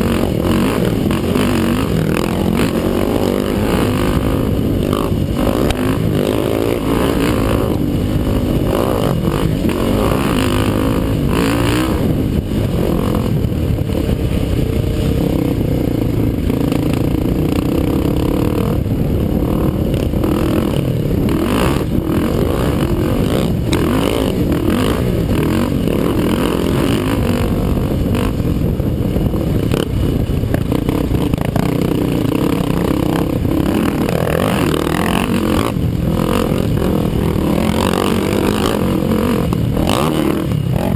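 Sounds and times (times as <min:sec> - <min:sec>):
atv engine revving: 0:00.0 - 0:40.9
heavy low rumble: 0:00.0 - 0:40.9.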